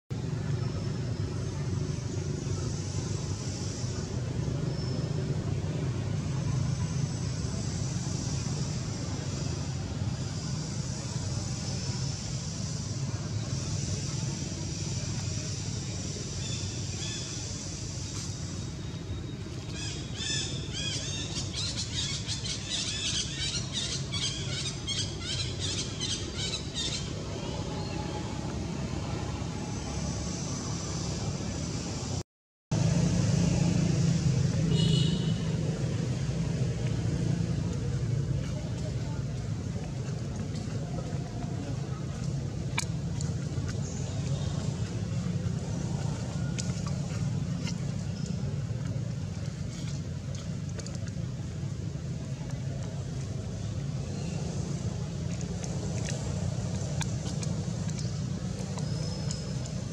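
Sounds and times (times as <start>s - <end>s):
low rumble with hiss: 0.1s - 59.9s.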